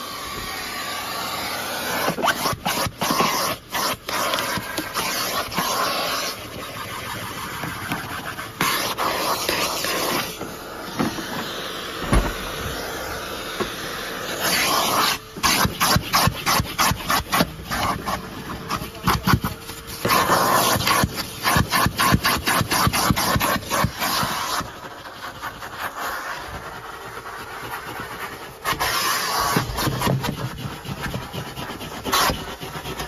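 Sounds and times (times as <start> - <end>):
vacuum cleaner running: 0.0 - 33.0
vacuum nozzle rubbing back and forth: 0.0 - 33.0.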